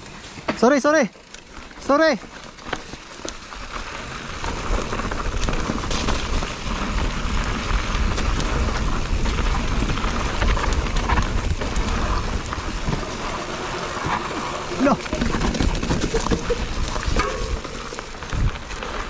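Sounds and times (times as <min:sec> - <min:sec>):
bike rattling: 0:00.0 - 0:19.0
bike tyres crunching over dirt: 0:00.0 - 0:19.0
low wind rumble on microphone: 0:03.7 - 0:19.0.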